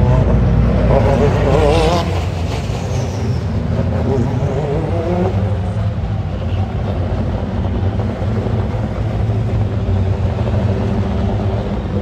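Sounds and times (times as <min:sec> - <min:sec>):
race car engines idling: 0:02.2 - 0:12.0.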